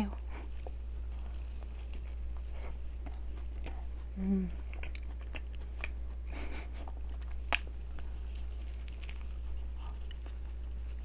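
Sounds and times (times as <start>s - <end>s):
person chewing: 0.0s - 11.0s
steady low hum: 0.0s - 11.0s.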